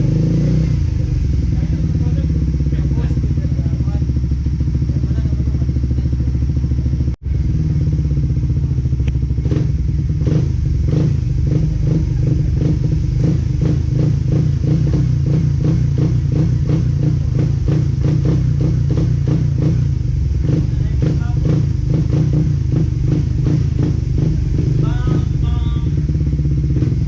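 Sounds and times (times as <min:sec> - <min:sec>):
motorcycle engine running: 0:00.0 - 0:27.0
regular ticking clatter: 0:00.8 - 0:27.0.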